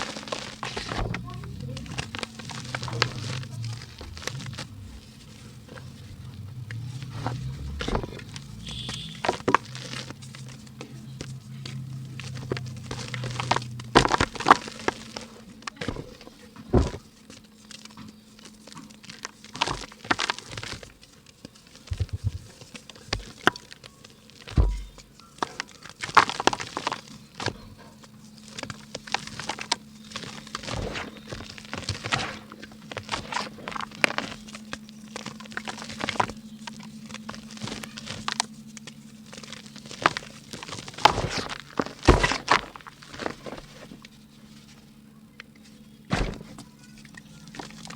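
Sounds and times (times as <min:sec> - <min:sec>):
dry mud being crushed by hand: 0:00.0 - 0:47.9
faint steady hum: 0:00.0 - 0:47.9.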